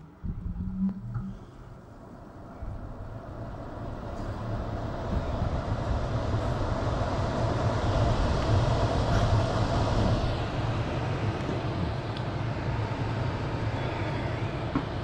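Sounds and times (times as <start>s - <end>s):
blower motor hum: 0.0s - 15.0s.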